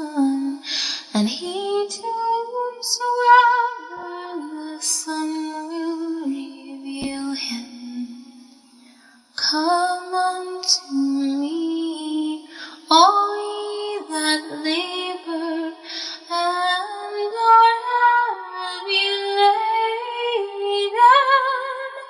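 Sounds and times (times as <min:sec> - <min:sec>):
woman singing slow melody: 0:00.0 - 0:22.0.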